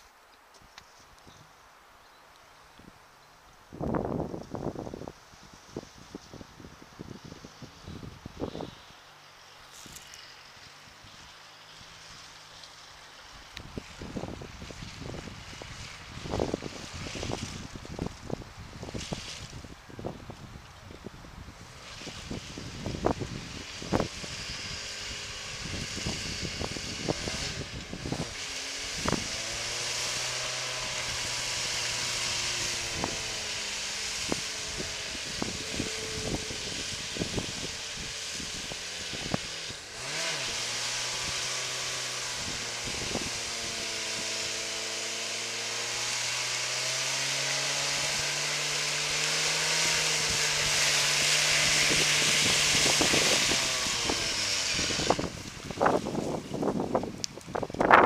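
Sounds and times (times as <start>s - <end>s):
wind hiss on microphone: 2.7s - 12.6s, 13.4s - 44.7s, 48.0s - 58.0s
car engine in mud: 3.8s - 58.0s.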